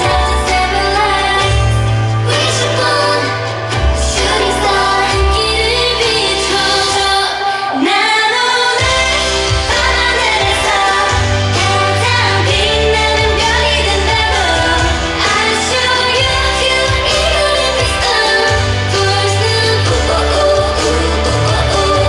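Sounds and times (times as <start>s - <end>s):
female vocals singing: 0.0s - 22.0s
pop backing track with heavy bass: 0.0s - 22.0s.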